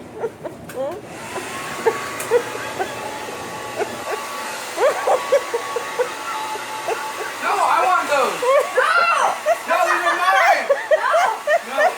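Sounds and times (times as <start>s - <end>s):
hair dryer running: 0.3s - 11.9s.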